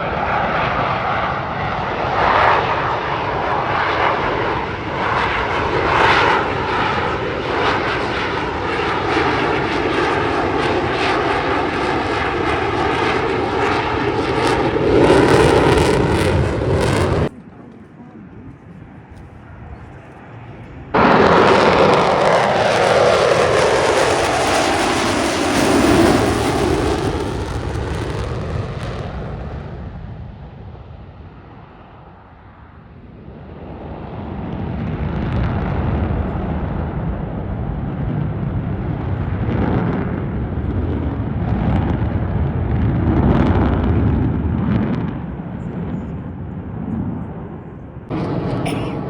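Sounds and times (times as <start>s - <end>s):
jet fighter roaring past: 0.0s - 49.0s.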